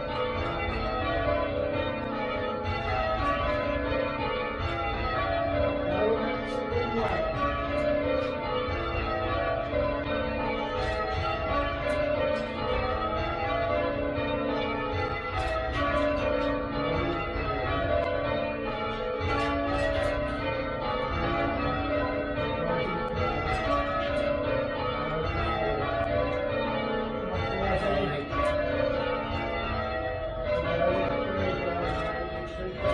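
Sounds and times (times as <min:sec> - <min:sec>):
church bells change ringing: 0:00.0 - 0:32.9.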